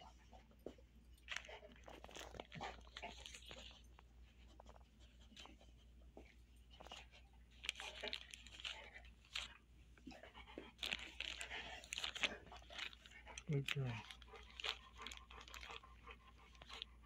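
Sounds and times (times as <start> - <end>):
dog chewing a dried chew: 0.0 - 17.0.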